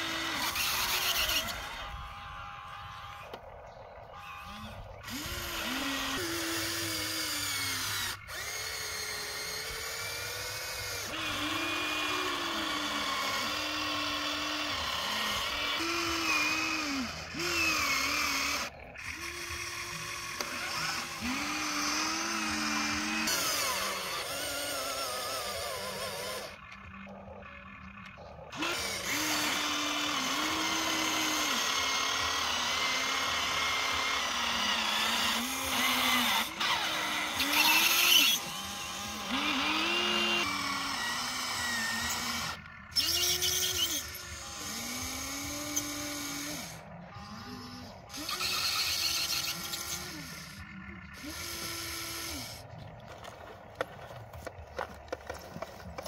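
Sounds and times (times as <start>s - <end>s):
small electric motors whining: 0.0s - 56.0s.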